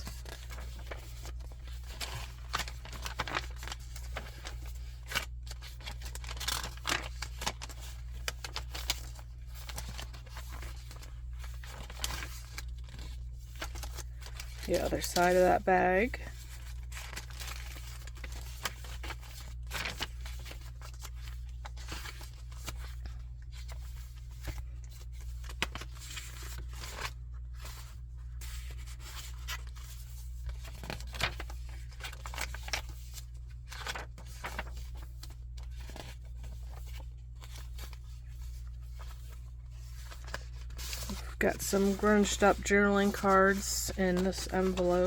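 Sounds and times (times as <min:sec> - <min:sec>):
paper pages rustling: 0:00.0 - 0:45.0.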